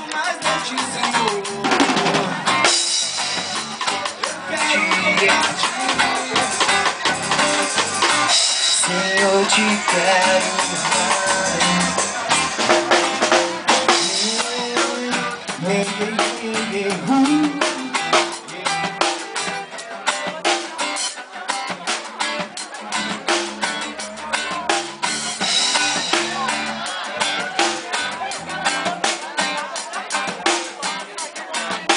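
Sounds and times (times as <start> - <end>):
drum kit beat: 0.0 - 31.9
electric and acoustic guitars: 0.0 - 31.9.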